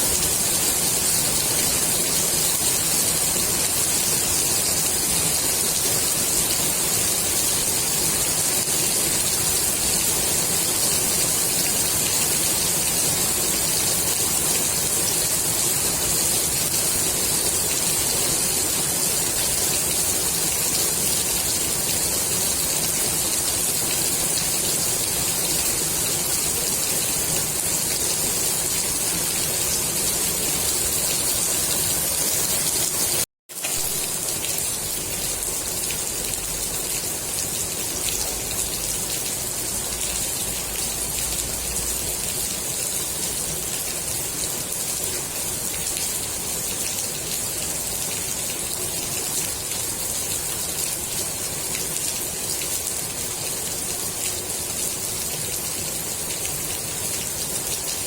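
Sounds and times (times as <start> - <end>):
rain falling on pool water: 0.0 - 58.0.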